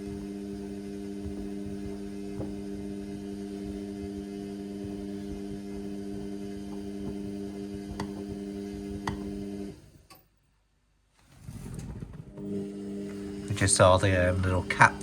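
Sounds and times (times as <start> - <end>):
washing machine humming: 0.0 - 10.0, 11.2 - 15.0.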